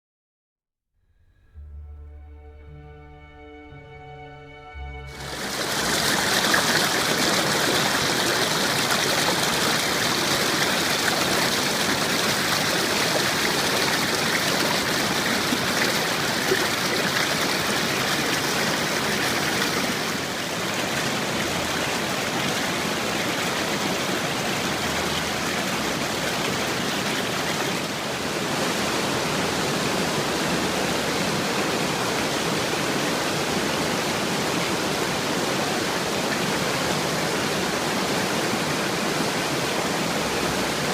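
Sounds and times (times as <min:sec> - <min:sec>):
water rushing: 0:02.4 - 0:40.9.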